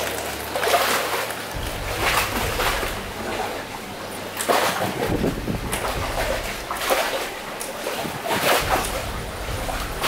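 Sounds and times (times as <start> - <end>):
water sloshing and splashing: 0.0 - 10.0
low rumble: 1.6 - 10.0.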